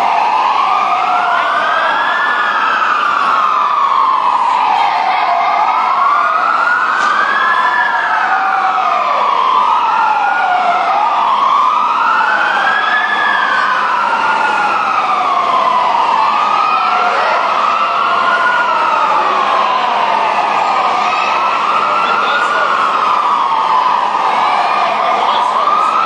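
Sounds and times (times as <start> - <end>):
fire truck sirens wailing: 0.0 - 26.0.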